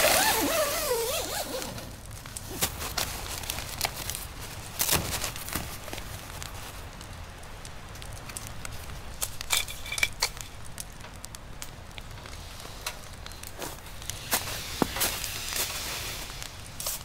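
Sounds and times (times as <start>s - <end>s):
wood stove crackling: 0.0s - 17.0s.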